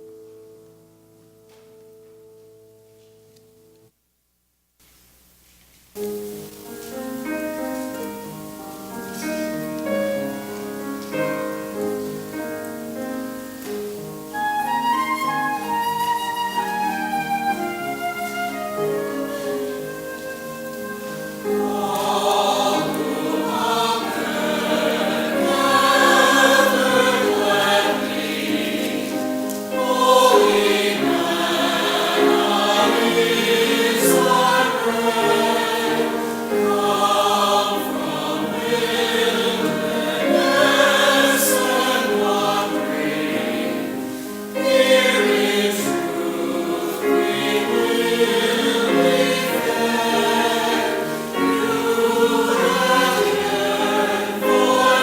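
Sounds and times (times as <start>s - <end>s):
choir singing a hymn: 6.9s - 55.0s.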